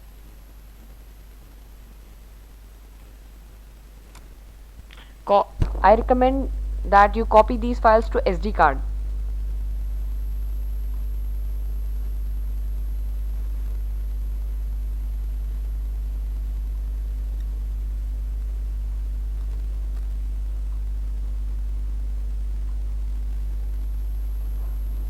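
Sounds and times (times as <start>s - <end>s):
faint hiss: 0.0s - 25.0s
low electrical hum: 0.0s - 25.0s.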